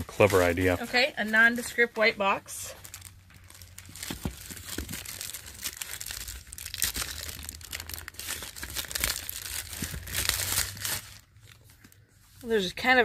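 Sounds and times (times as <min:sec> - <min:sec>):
plastic wrap crinkling and tearing: 0:00.0 - 0:01.6, 0:02.6 - 0:12.0.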